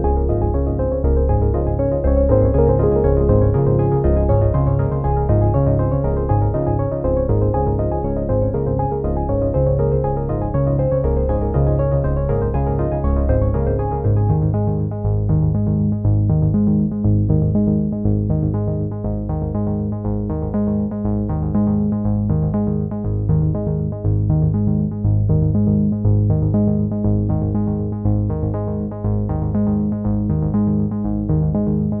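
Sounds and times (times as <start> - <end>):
electronic music with synthesizer: 0.0 - 32.0.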